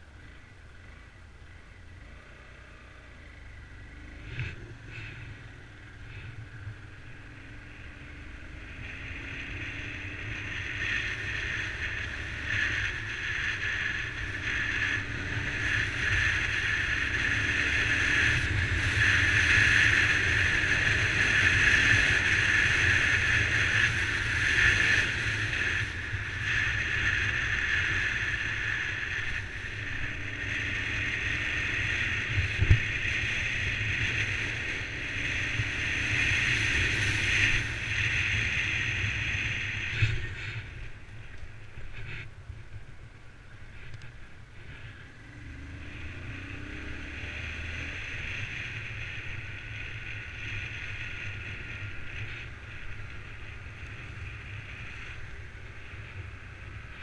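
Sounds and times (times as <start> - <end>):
faint motorcycle engine: 0.0 - 57.0
wind and road rush: 0.0 - 57.0.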